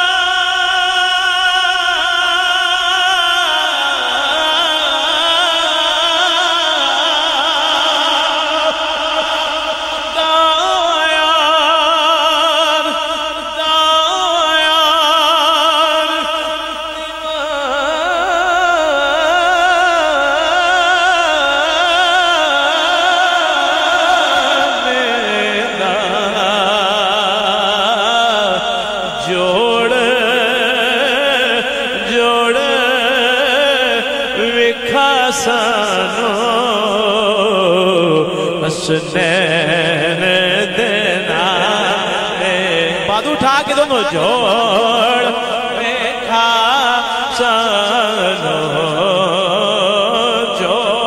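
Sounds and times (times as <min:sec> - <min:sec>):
man singing with vibrato: 0:00.0 - 0:51.0.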